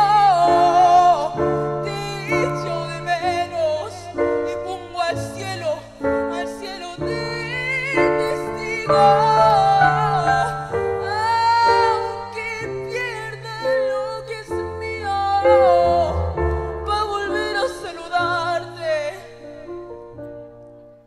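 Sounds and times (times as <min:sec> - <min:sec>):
man singing ballad: 0:00.0 - 0:20.2
keyboard chords: 0:00.0 - 0:21.0.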